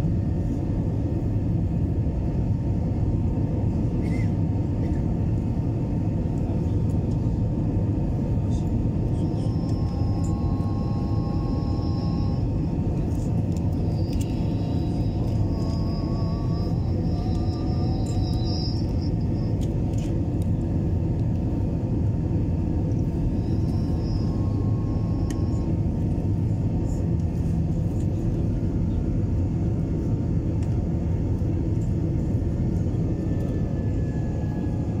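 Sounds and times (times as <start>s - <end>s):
jet engines roaring in cabin: 0.0s - 35.0s.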